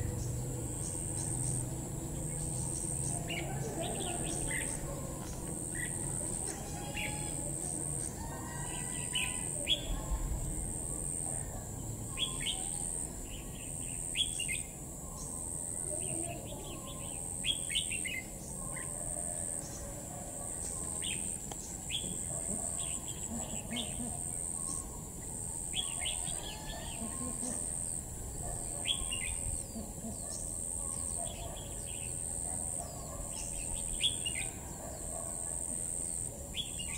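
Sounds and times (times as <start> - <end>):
bird chirping calls: 0.0 - 10.3, 12.1 - 36.9.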